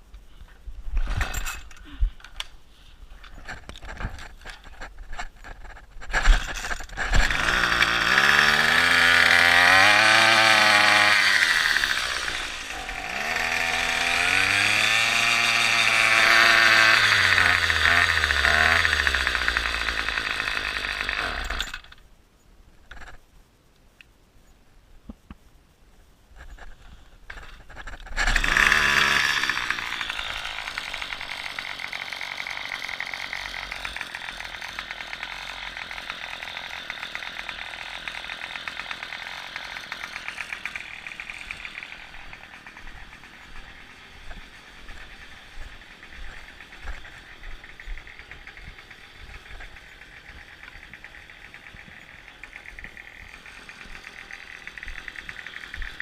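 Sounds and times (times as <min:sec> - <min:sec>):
small gasoline engine running: 0:05.4 - 0:22.0, 0:27.3 - 0:56.0.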